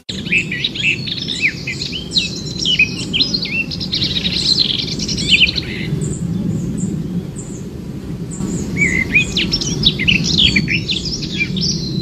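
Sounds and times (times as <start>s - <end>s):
birds chirping and whistling: 0.1s - 12.0s.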